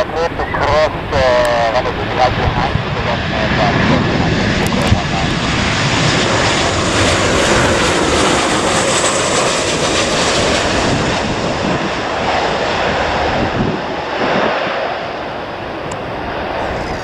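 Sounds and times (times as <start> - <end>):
airliner engines passing: 0.0 - 17.0.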